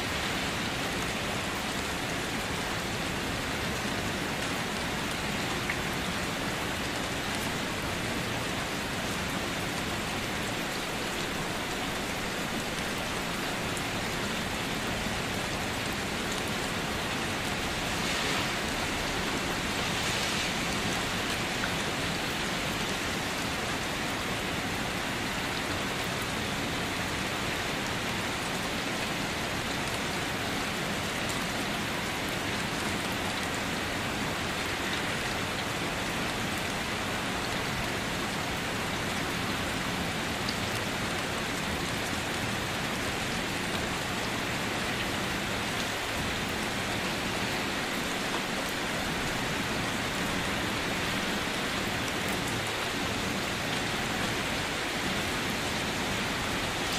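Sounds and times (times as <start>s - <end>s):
steady rain: 0.0s - 56.9s.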